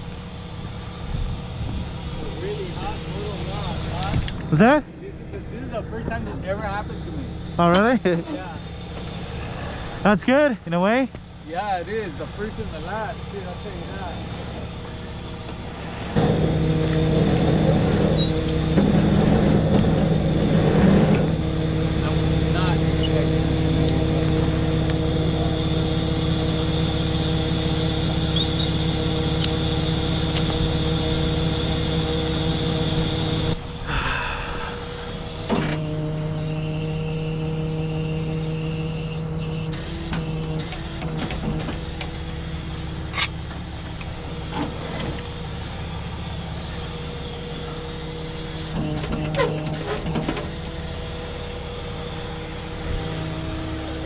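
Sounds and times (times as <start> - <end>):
truck engine hydraulic hum: 0.0 - 54.0.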